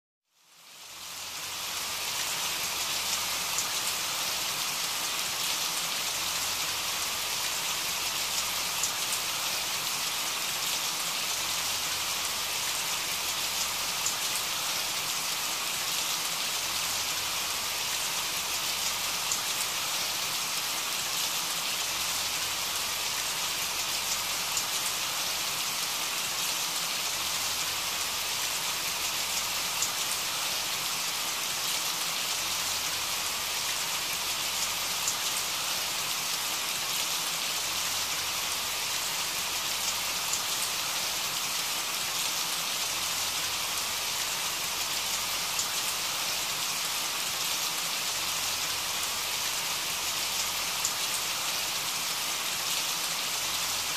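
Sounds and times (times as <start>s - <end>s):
steady rain: 0.3s - 53.9s.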